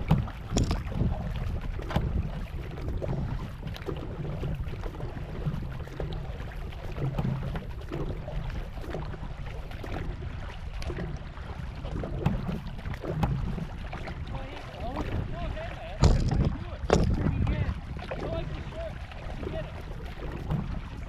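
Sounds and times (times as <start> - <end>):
paddle splashing in water: 0.0 - 21.0
wind rumble on microphone: 0.0 - 21.0.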